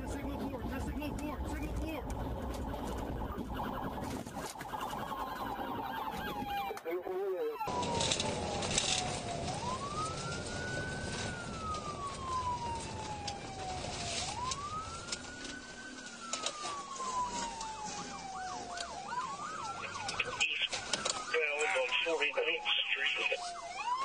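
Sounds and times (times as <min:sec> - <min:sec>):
faint yelping siren tone: 0:00.0 - 0:24.0
police siren wailing: 0:00.0 - 0:24.0.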